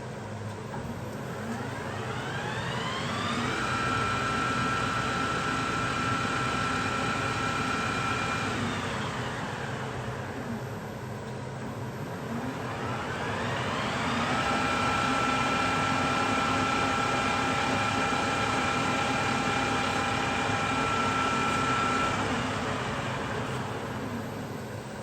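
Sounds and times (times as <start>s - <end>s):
lathe spindle whine: 1.3s - 11.2s, 11.8s - 25.0s.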